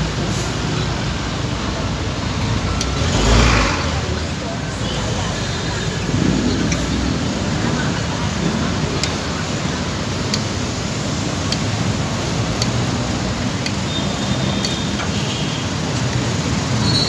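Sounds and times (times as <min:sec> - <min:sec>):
heavy traffic rumble: 0:00.0 - 0:17.0.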